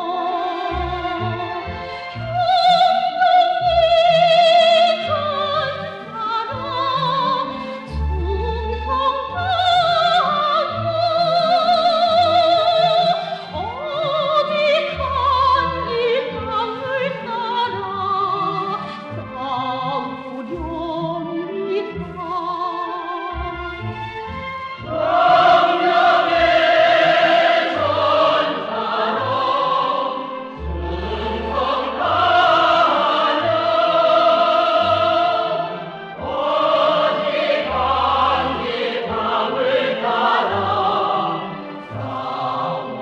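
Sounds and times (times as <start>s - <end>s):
operatic singing with vibrato: 0.0s - 23.1s, 24.7s - 43.0s
orchestral accompaniment: 0.0s - 43.0s.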